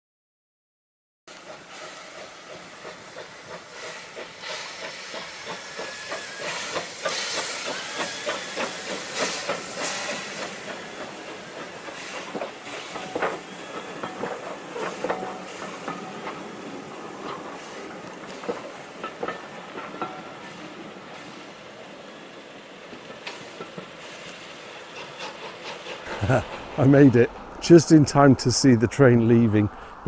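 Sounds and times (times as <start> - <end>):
locomotive steam hissing: 1.3 - 30.0
train wheels clicking on rails: 1.3 - 30.0.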